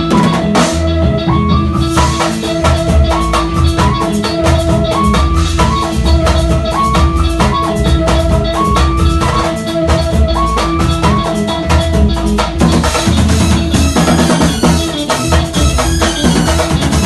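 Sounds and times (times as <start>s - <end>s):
bass guitar: 0.0s - 17.0s
drum kit: 0.0s - 17.0s
electric guitar riff: 0.0s - 17.0s
surdo and repique drums: 0.0s - 17.0s.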